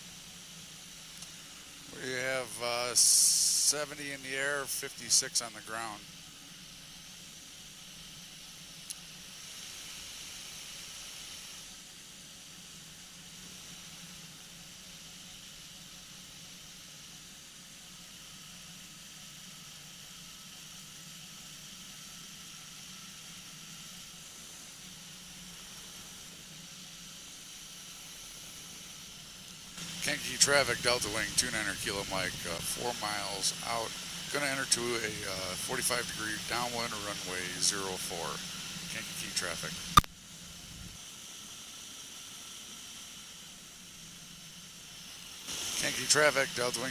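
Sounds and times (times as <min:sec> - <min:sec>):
faint low engine drone: 0:00.0 - 0:41.0, 0:43.2 - 0:46.9
steady hiss: 0:00.0 - 0:46.9.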